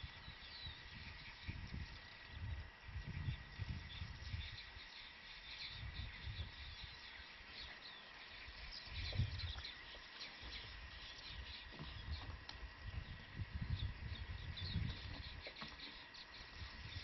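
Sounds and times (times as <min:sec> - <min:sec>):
birds chirping: 0:00.0 - 0:17.0
insects chirping: 0:00.0 - 0:17.0.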